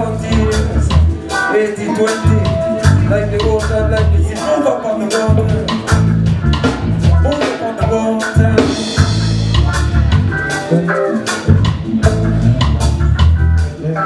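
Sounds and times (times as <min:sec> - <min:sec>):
reggae band playing: 0:00.0 - 0:14.0.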